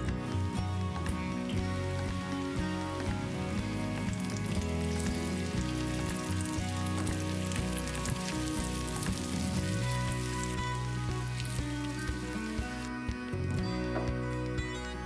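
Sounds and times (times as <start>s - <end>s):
soft background music: 0.0s - 15.0s
vegetables sizzling in oil: 0.3s - 12.9s.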